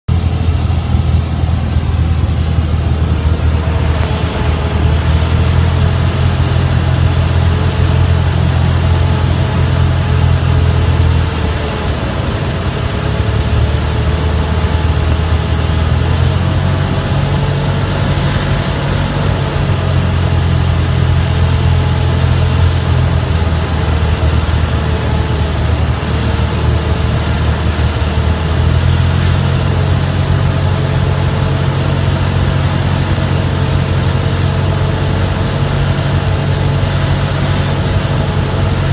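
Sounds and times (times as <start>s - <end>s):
airplane engine and propeller droning: 0.1s - 38.9s.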